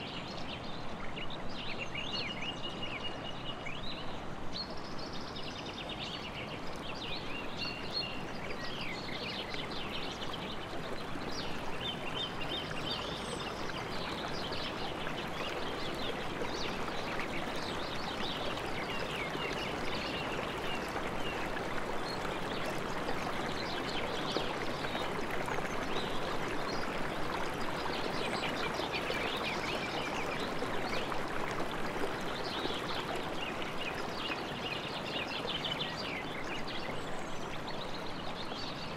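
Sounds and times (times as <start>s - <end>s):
river running: 0.0s - 38.9s.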